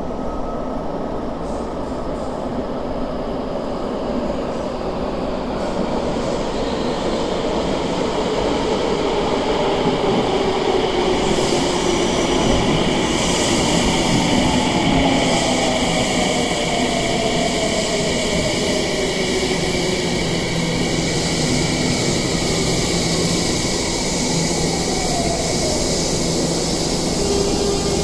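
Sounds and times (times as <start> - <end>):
electric train approaching: 0.0 - 28.0.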